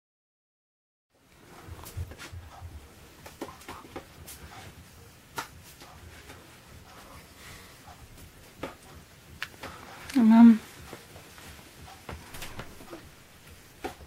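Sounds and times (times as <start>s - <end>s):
rustling of hands and clothing: 1.2s - 14.0s.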